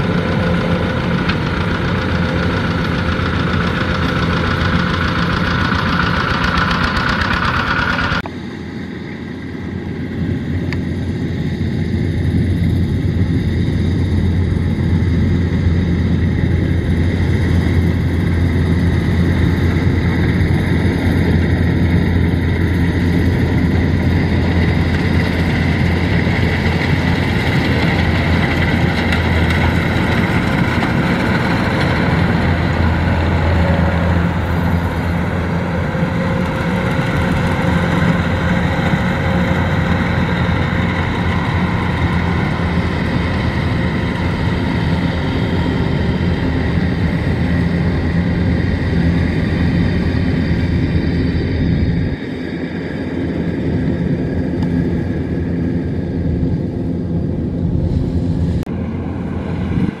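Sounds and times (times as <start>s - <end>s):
combine harvester droning: 0.0s - 60.0s.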